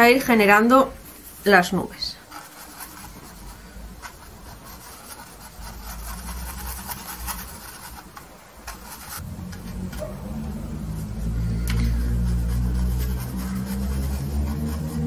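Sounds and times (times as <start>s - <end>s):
low steady hum: 0.0s - 15.0s
paintbrush scrubbing on canvas: 0.3s - 15.0s.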